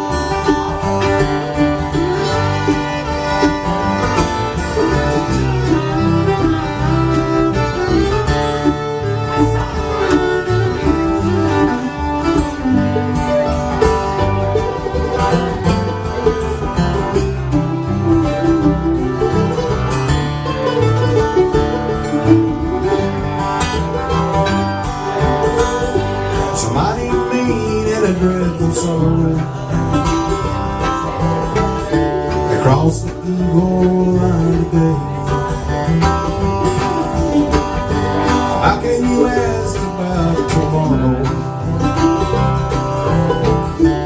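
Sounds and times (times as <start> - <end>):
band playing country instrumental: 0.0 - 44.0.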